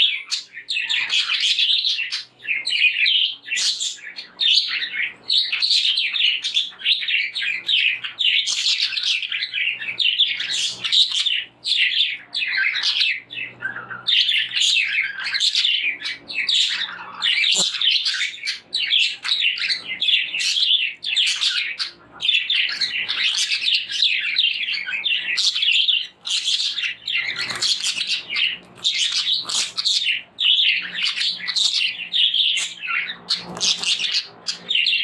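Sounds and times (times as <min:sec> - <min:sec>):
budgerigars chirping: 0:00.0 - 0:35.0.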